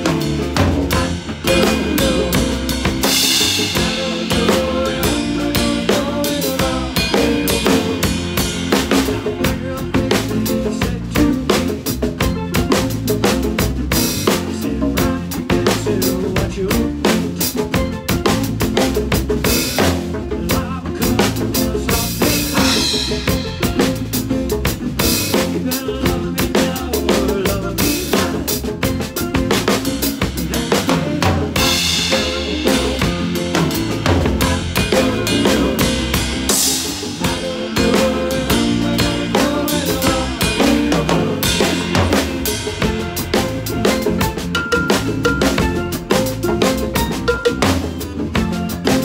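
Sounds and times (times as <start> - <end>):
live band playing: 0.0 - 49.0
snare and bass drum beat: 0.0 - 49.0.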